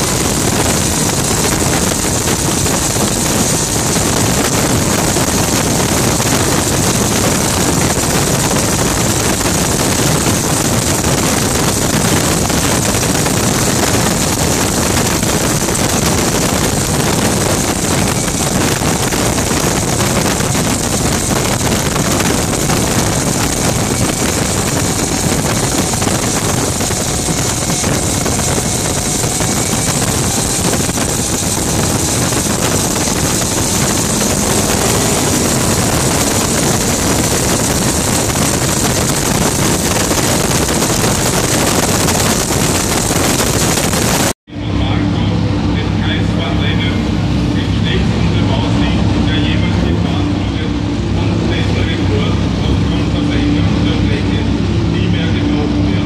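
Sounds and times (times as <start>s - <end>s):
gas turbine engine whine: 0.0s - 56.0s
wind buffeting microphone: 0.0s - 56.0s.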